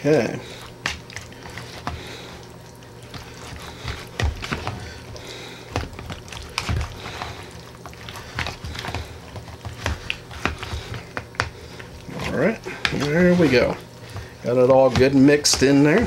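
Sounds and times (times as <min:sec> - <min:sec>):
spatula scraping plastic bowl: 0:03.0 - 0:16.0.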